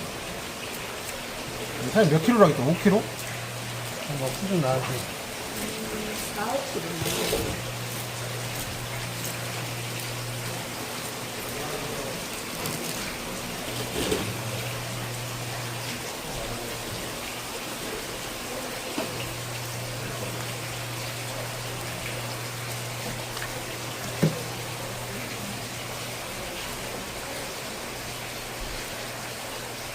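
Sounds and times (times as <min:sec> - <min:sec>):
running water splashing: 0:00.0 - 0:29.9.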